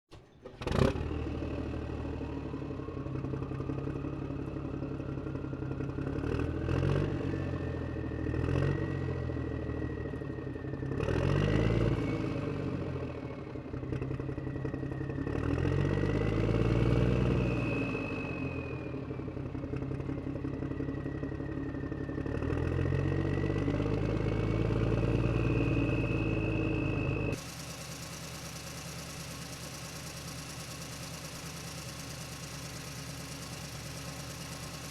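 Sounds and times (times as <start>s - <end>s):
engine running and revving: 0.4s - 34.9s.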